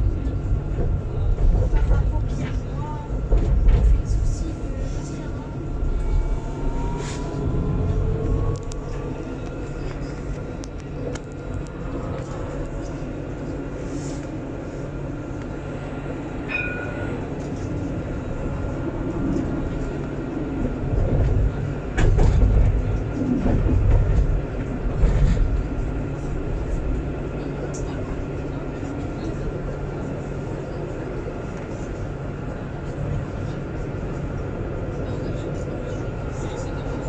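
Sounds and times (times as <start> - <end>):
tram wheels rumbling: 0.0 - 37.0.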